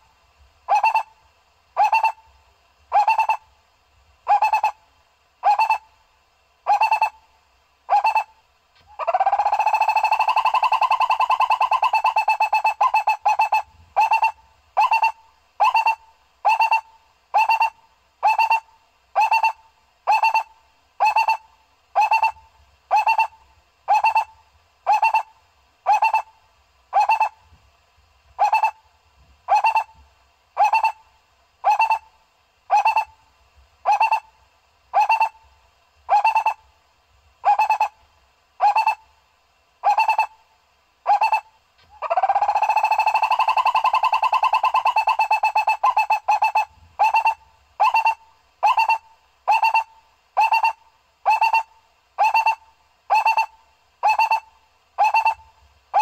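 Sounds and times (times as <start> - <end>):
barbet calling: 0.7 - 1.2, 1.8 - 2.3, 2.9 - 3.4, 4.3 - 4.8, 5.4 - 5.9, 6.6 - 7.2, 7.9 - 27.4, 28.4 - 28.8, 29.5 - 30.0, 30.6 - 33.2, 33.8 - 35.5, 36.1 - 36.7, 37.4 - 38.0, 38.6 - 39.1, 39.8 - 40.4, 41.0 - 56.0.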